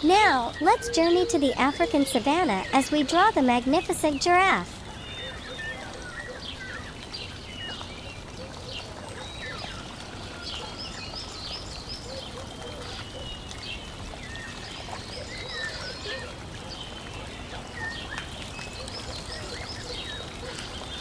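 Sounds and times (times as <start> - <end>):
birds chirping and whistling: 0.0 - 21.0.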